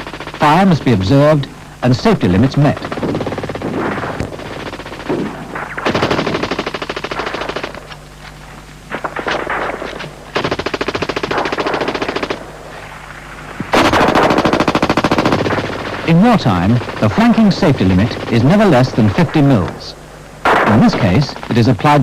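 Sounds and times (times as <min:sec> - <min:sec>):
machine guns firing bursts: 0:00.0 - 0:08.2, 0:08.9 - 0:21.6.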